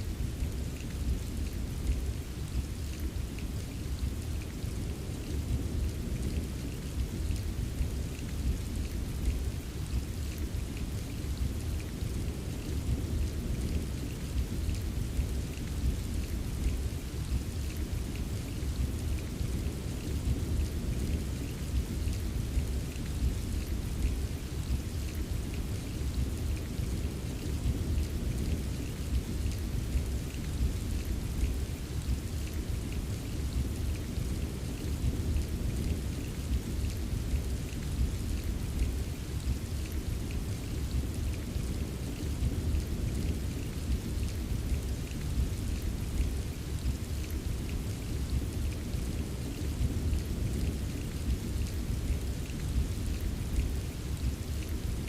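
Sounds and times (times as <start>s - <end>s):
raindrop ticks: 0.4s - 55.0s.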